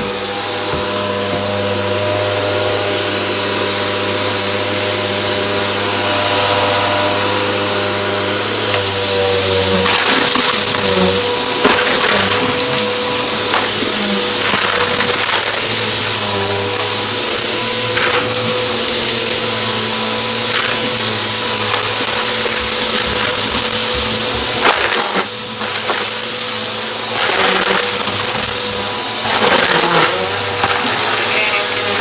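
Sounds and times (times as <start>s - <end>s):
vacuum cleaner running: 0.0s - 32.0s
debris rattling in vacuum: 3.6s - 32.0s.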